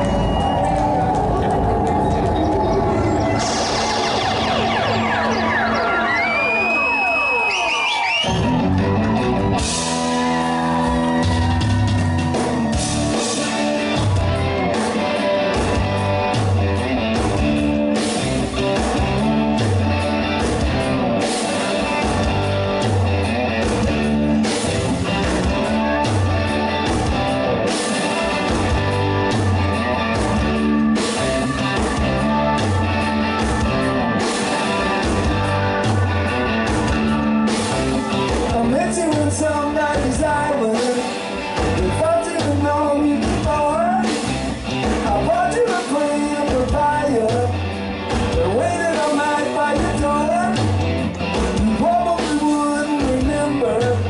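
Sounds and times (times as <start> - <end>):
drum kit: 0.0 - 7.2, 8.2 - 54.0
bass line: 0.0 - 54.0
electric guitars: 0.0 - 54.0.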